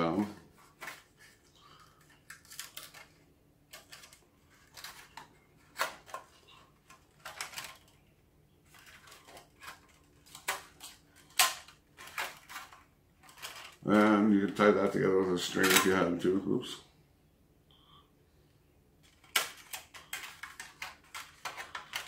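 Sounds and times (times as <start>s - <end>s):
aluminium foil tray crinkling: 0.6s - 16.2s, 19.0s - 22.0s.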